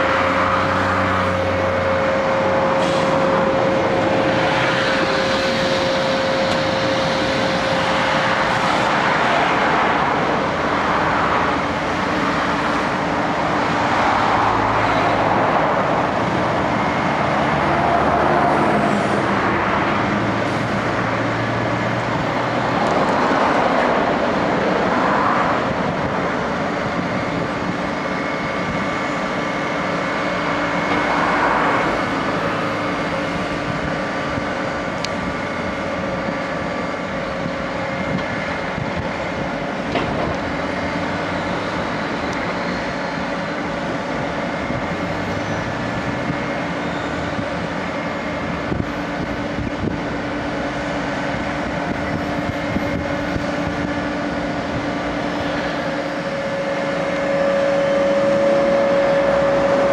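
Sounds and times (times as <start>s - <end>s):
diesel machinery din: 0.0s - 59.9s
steady whine: 0.0s - 59.9s.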